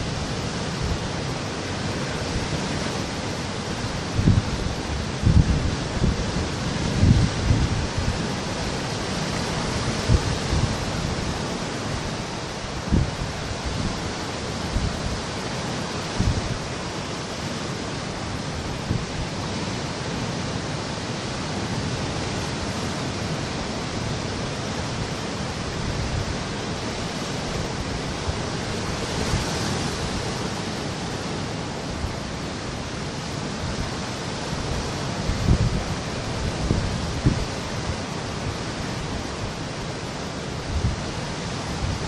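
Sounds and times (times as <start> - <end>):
surf breaking over rocks: 0.0 - 42.0.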